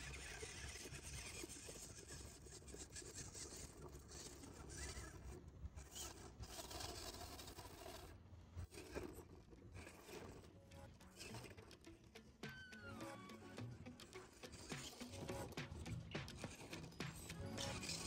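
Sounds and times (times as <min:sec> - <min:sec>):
toy car tyres grinding over clay: 0:00.0 - 0:18.0.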